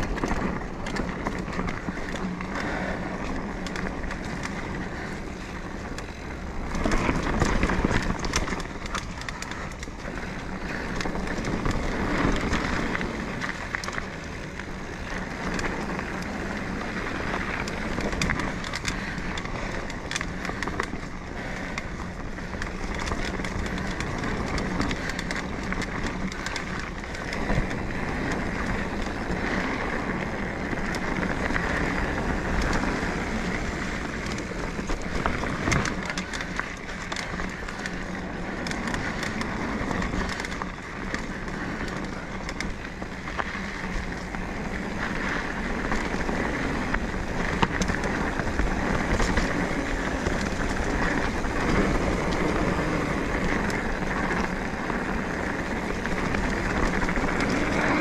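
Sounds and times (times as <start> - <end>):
bike rattles and clicks: 0.0 - 58.0
bike tyres over dirt and rocks: 0.0 - 58.0.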